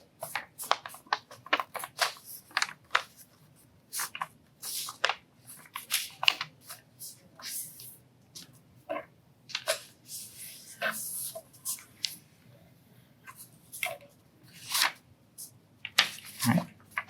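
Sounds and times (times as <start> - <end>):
paper being folded: 0.2 - 8.5, 9.5 - 12.2, 13.2 - 15.0, 15.8 - 17.0.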